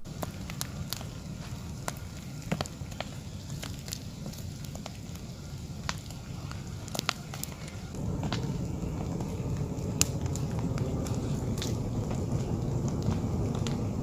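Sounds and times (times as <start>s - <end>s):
fire rumbling and crackling: 0.0s - 14.0s.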